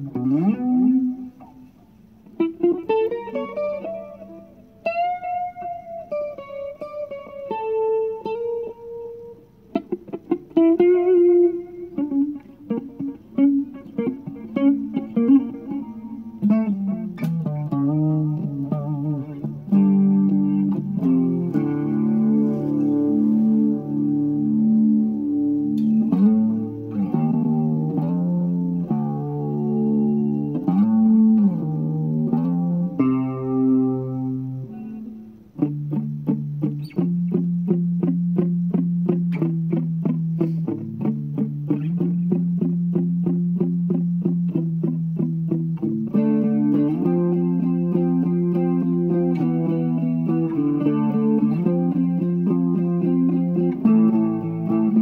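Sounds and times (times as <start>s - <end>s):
instrumental music: 0.0s - 55.0s.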